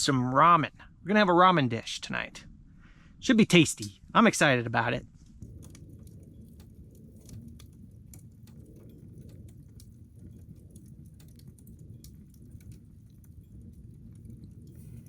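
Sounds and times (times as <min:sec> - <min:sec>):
low steady rumble: 0:00.0 - 0:15.0
wood stove crackling: 0:00.0 - 0:15.0.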